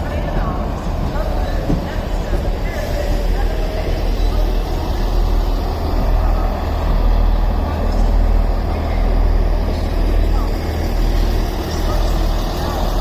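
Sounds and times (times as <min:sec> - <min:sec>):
train diesel engines rumbling: 0:00.0 - 0:13.0.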